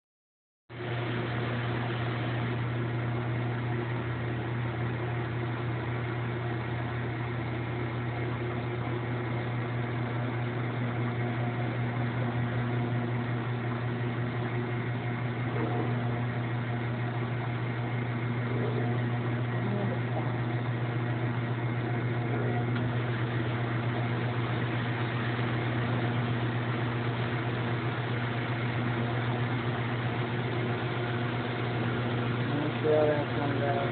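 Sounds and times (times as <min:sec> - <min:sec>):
washing machine humming: 0:00.7 - 0:33.9.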